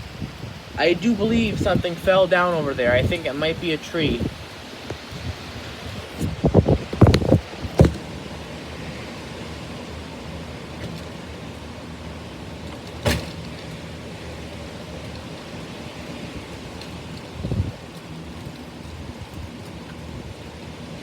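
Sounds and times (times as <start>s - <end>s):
strong wind: 0.0s - 21.0s.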